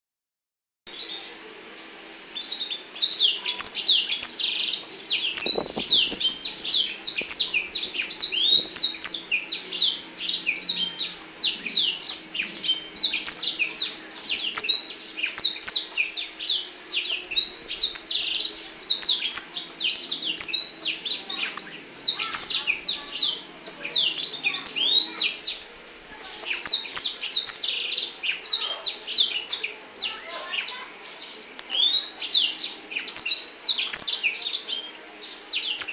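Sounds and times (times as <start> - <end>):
canary singing: 0.9 - 1.4, 2.3 - 35.9.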